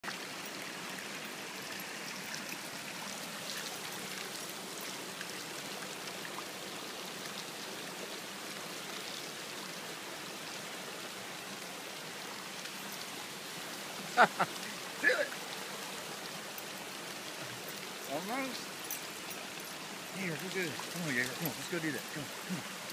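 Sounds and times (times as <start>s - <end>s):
creek water running over rocks: 0.0s - 22.9s
faint water splashes: 0.0s - 22.9s.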